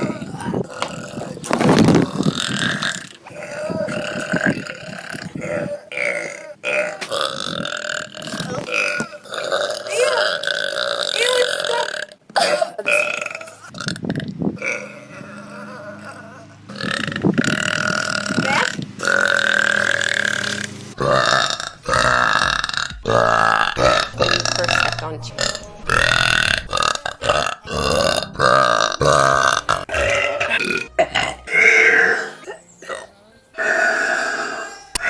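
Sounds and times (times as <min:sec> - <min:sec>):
woman belching: 0:00.0 - 0:35.0.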